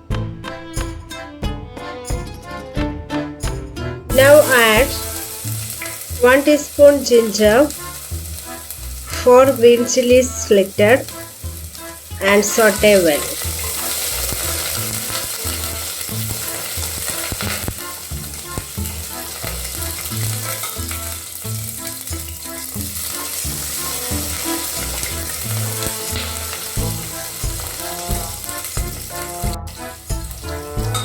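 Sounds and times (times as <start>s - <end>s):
vegetables sizzling in hot oil: 4.1s - 31.0s.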